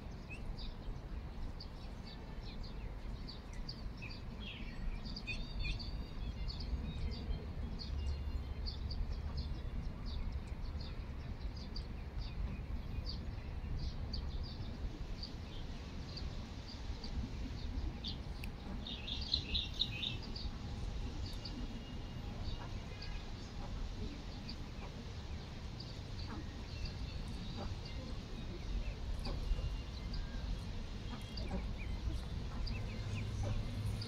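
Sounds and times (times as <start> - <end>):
small birds chirping: 1.6 - 34.0.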